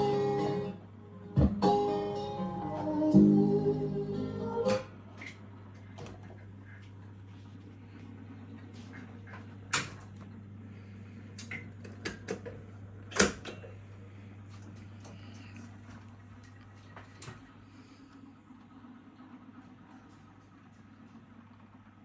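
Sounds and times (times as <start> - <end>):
jukebox humming: 0.0 - 22.0.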